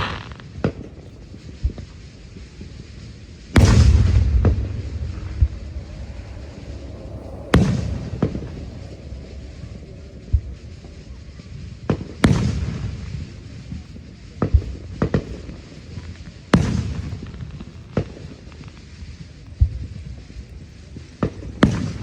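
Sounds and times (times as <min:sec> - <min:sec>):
fireworks bangs: 0:00.0 - 0:22.0
fireworks rumble: 0:00.0 - 0:22.0.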